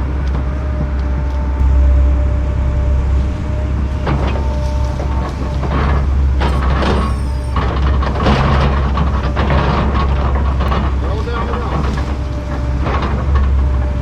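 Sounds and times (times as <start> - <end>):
excavator diesel engine running: 0.0 - 14.0
faint hydraulic whine: 0.1 - 14.0.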